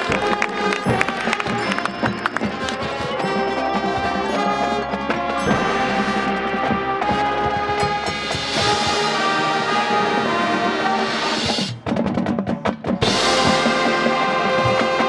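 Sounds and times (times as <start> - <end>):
sharp percussion strokes: 0.0 - 11.9, 13.0 - 15.0
marching band playing: 0.0 - 15.0.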